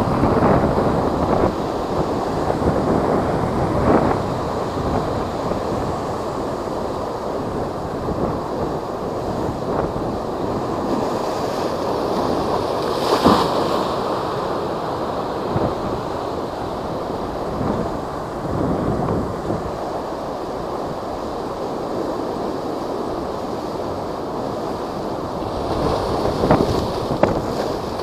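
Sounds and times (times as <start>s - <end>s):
heavy surf breaking: 0.0s - 28.0s
wind buffeting microphone: 0.0s - 28.0s.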